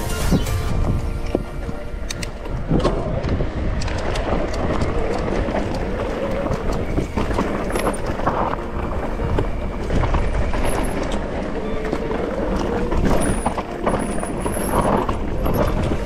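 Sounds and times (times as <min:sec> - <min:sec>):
wind and trail rumble: 0:00.0 - 0:16.0
bike rattling clicks and knocks: 0:02.0 - 0:16.0.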